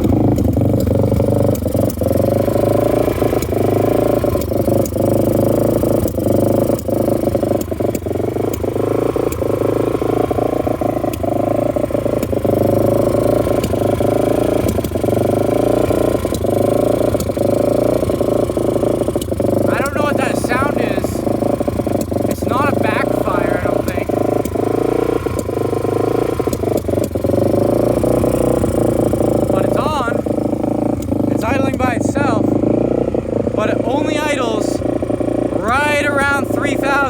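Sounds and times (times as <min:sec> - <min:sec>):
engine clicks and pops: 0:00.0 - 0:37.0
motorcycle engine fast idle: 0:00.0 - 0:37.0.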